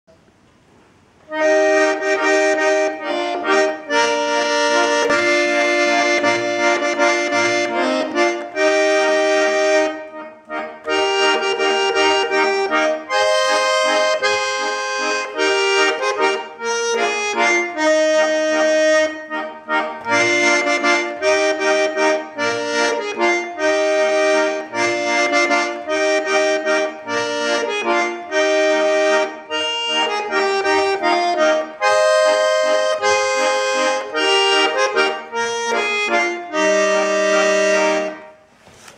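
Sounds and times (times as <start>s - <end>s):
accordion melody: 1.3s - 38.6s.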